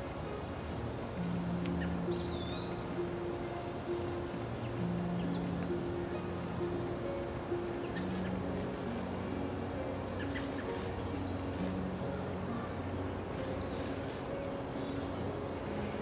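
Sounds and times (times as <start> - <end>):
crickets trilling: 0.0 - 16.0
soft low held notes: 0.0 - 16.0.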